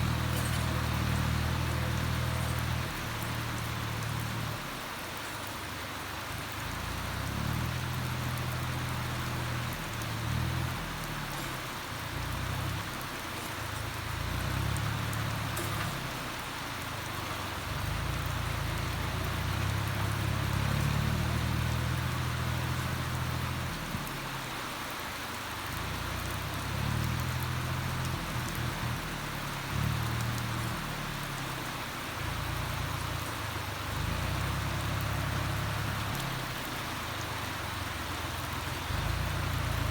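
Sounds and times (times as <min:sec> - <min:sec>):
steady rain falling: 0:00.0 - 0:39.9
tractor diesel engine drone: 0:00.0 - 0:39.9.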